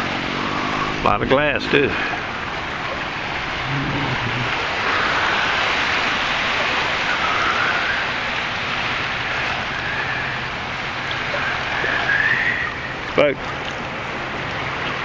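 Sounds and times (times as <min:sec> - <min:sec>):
surf rushing: 0:00.0 - 0:15.0
wind: 0:00.0 - 0:15.0.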